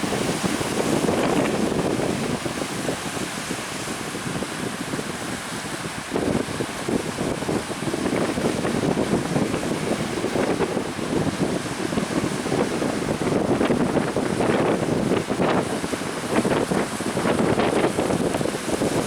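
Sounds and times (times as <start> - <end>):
motorboat running: 0.0 - 19.0
water rushing and splashing: 0.0 - 19.0
wind buffeting microphone: 0.0 - 19.0.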